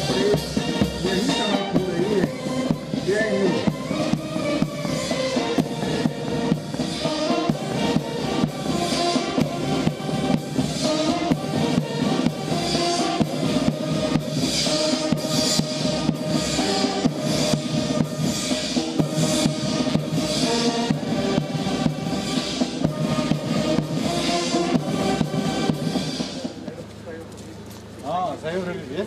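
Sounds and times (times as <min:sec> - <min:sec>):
brass band playing a march: 0:00.0 - 0:26.7
bass and snare drums: 0:00.0 - 0:29.0.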